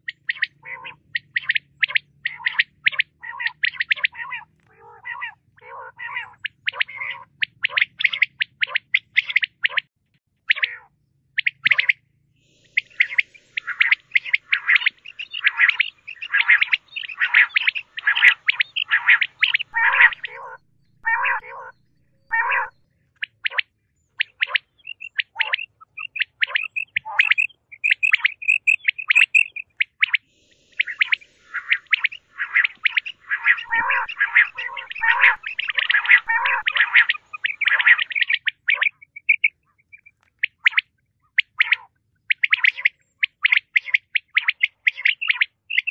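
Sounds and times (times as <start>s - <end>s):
quail calling: 0.0s - 9.9s, 10.5s - 45.9s.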